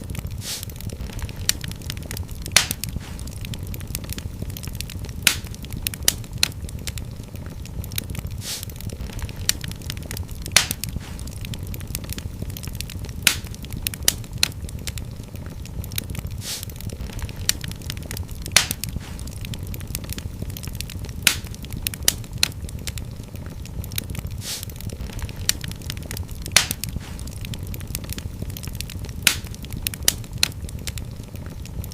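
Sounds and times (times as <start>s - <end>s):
fire crackling and popping: 0.0s - 31.9s
fire flames rumbling: 0.0s - 31.9s.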